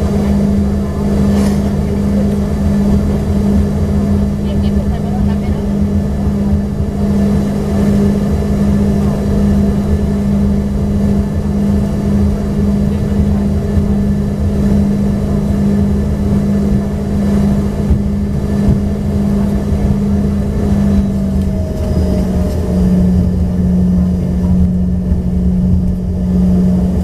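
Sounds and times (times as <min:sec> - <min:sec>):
jet cabin drone: 0:00.0 - 0:27.0.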